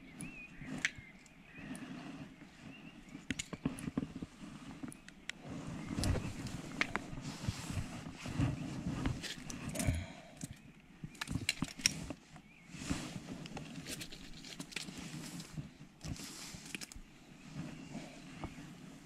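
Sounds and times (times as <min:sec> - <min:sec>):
clicks and rustles of unhooking fish: 0:00.0 - 0:17.1.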